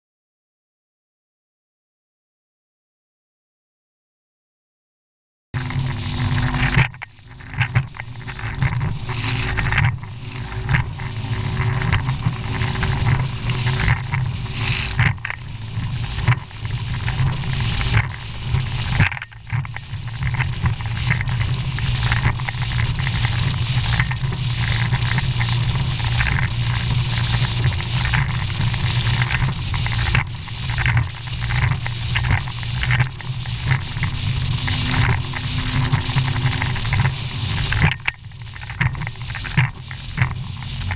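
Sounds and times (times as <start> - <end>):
boat engine rumble: 5.6 - 40.9
wind on microphone: 5.6 - 40.9.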